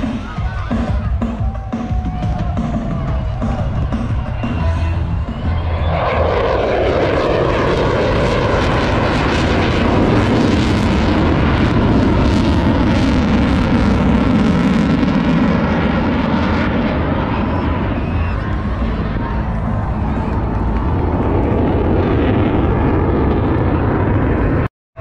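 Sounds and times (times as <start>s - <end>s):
jet flying past: 0.0s - 24.7s.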